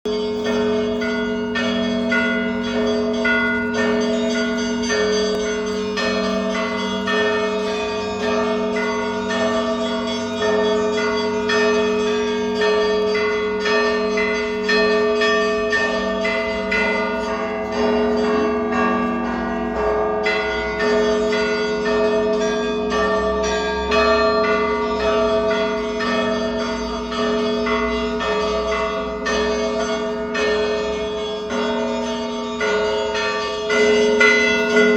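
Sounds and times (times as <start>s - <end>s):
deep bells humming: 0.1s - 34.9s.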